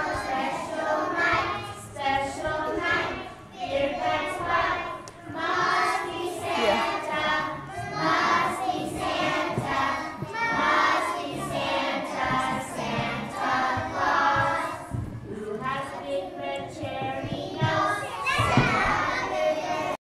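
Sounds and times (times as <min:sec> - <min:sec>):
children singing in unison: 0:00.0 - 0:20.0.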